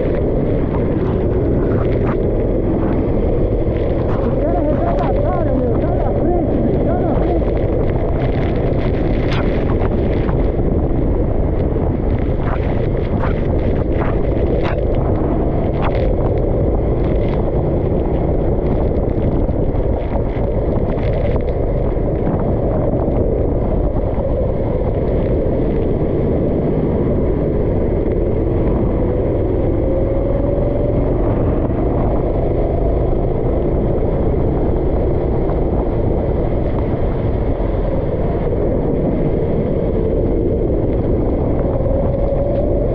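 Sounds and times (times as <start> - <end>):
go-kart engine rumbling: 0.0 - 42.9.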